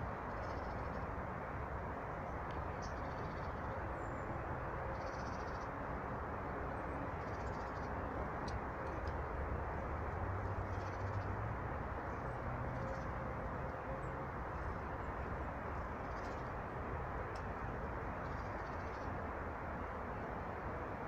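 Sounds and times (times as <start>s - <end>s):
outdoor background rush: 0.0s - 21.0s.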